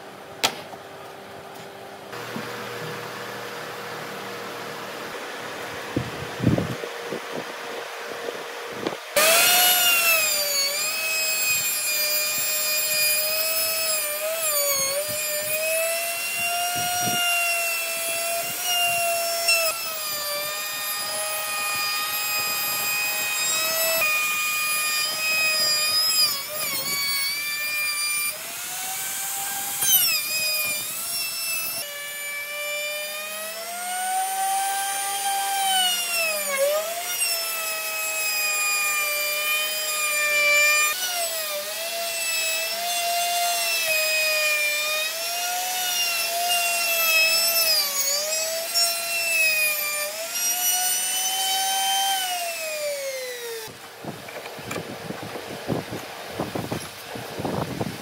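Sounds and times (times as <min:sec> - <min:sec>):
router cutting wood: 0:02.1 - 0:04.0, 0:08.8 - 0:58.0.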